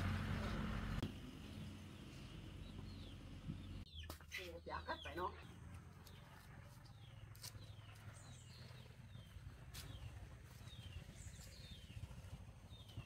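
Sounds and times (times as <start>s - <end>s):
bird chirping: 0.9s - 13.0s.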